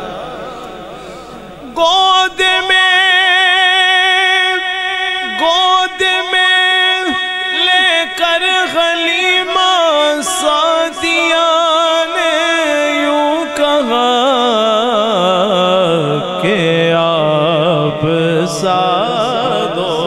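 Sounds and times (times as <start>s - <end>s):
man singing: 0.0s - 20.0s.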